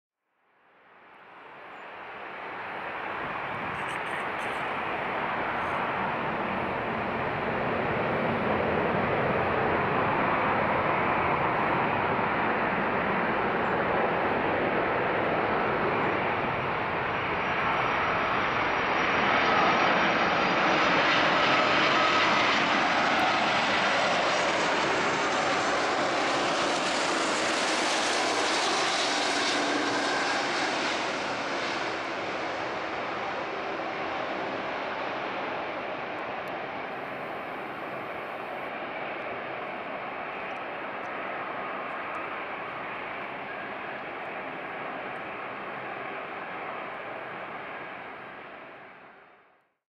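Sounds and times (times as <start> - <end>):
jet engines rushing: 1.5 - 49.0.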